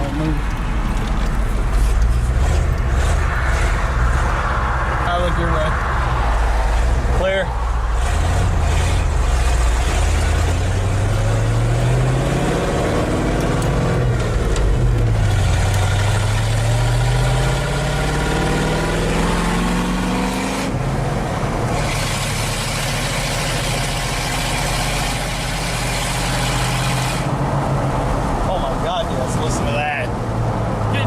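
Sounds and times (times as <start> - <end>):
pickup truck engine accelerating: 0.0 - 29.4.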